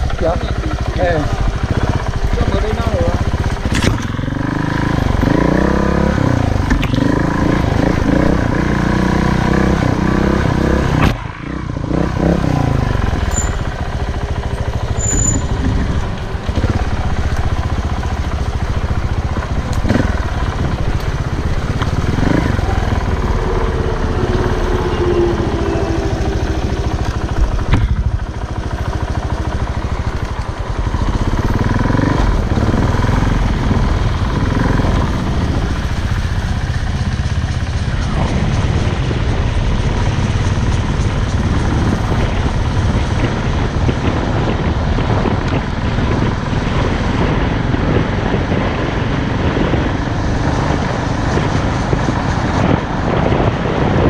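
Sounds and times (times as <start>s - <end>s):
motorcycle engine revving: 0.0s - 54.0s
rumble of riding noise: 0.0s - 54.0s.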